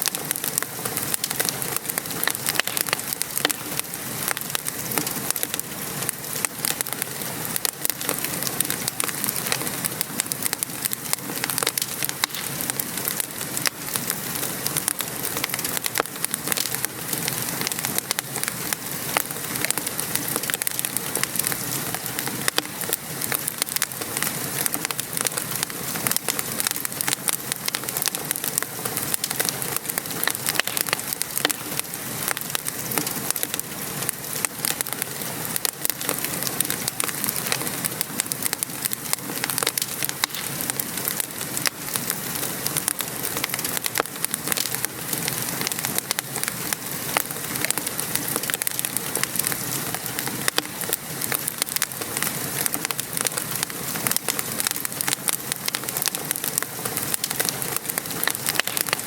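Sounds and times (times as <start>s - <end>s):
rain falling: 0.0s - 59.0s
wood fire crackling: 0.0s - 59.0s.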